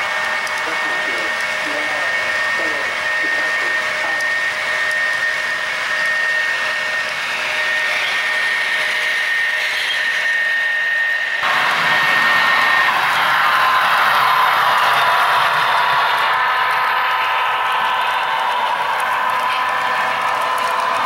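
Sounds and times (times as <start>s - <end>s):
model train rolling on track: 0.0s - 21.0s
thin high whine: 0.0s - 21.0s.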